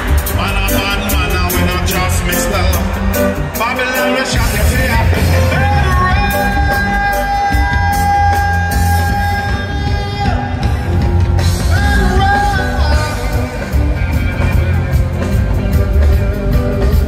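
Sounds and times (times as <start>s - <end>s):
live reggae band: 0.0s - 17.0s.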